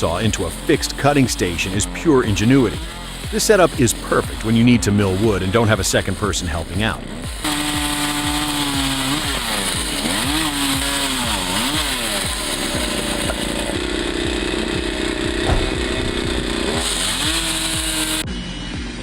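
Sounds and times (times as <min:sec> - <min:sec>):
chainsaw engine revving: 0:00.0 - 0:18.2.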